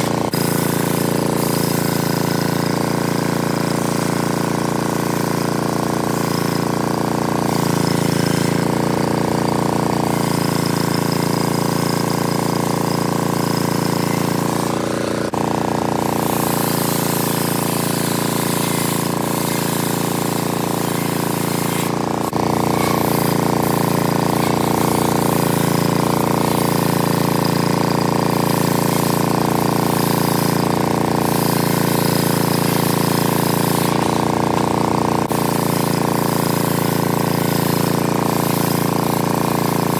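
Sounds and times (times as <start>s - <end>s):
circular saw ripping wood: 0.0s - 4.2s, 6.0s - 39.9s.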